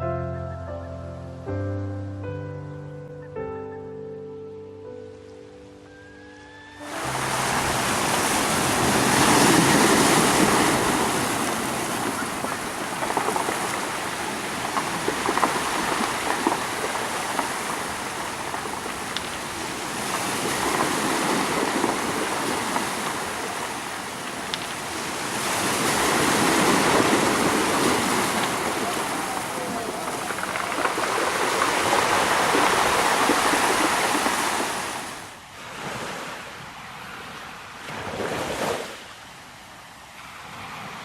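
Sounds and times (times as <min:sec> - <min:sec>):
sea waves washing in: 0:06.8 - 0:41.0.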